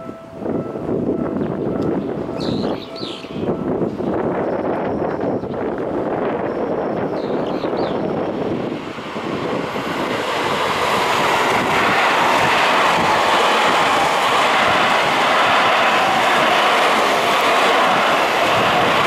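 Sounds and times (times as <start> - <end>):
electric train passing: 0.0 - 19.0
wheel-on-rail noise and rumble: 0.0 - 19.0.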